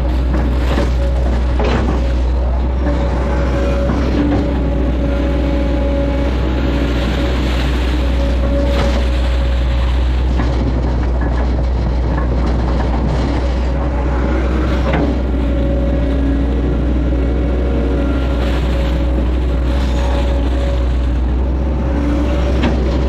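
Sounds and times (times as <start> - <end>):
excavator diesel engine: 0.0 - 23.0
hydraulic whine: 0.0 - 23.0.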